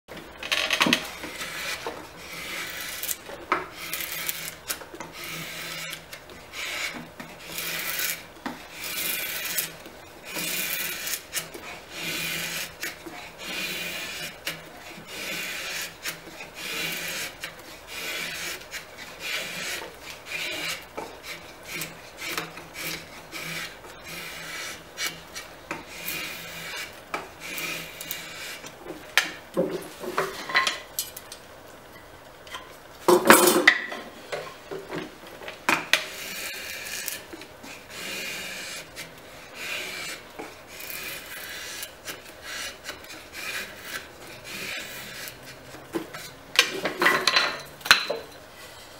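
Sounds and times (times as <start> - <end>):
drawknife shaving wood: 0.4 - 30.4, 34.9 - 48.9.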